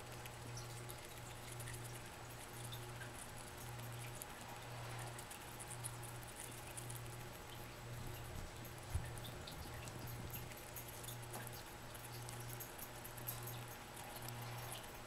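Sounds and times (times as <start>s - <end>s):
rat chewing grape: 0.0s - 15.0s.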